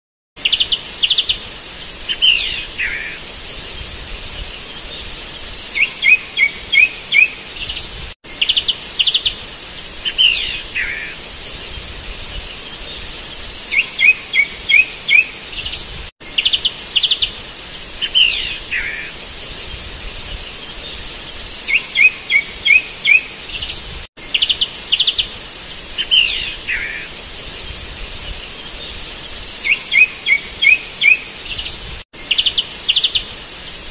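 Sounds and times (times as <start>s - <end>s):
birdsong: 0.4s - 25.4s, 26.0s - 33.4s
steady outdoor hiss: 0.4s - 33.9s.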